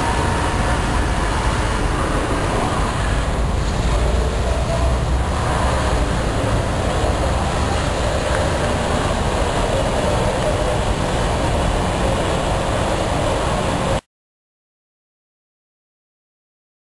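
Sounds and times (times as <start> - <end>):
car wash machinery running: 0.0 - 14.0.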